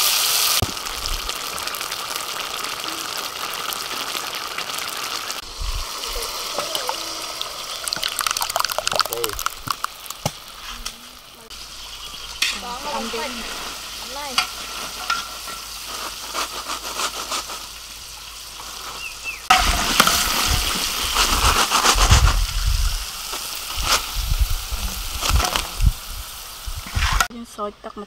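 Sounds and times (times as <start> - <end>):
oil sizzling deep-frying: 0.0 - 27.3.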